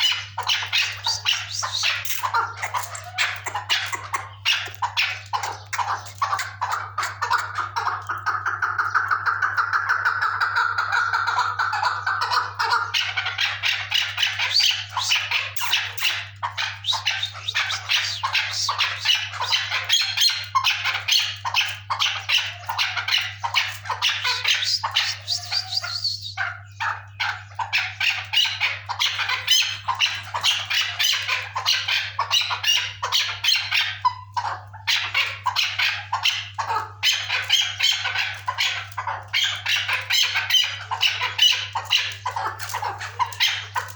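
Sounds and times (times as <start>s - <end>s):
partridge chattering calls: 0.0s - 43.9s.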